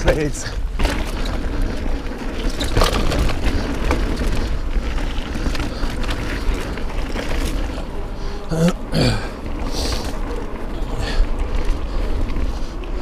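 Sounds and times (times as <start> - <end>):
bike rattling clicks and knocks: 0.0 - 13.0
wind and tyres rumbling on trail: 0.0 - 13.0.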